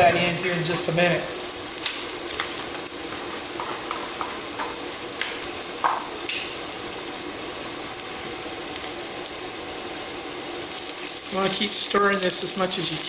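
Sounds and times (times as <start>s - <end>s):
vegetables sizzling in a skillet: 0.0s - 13.0s.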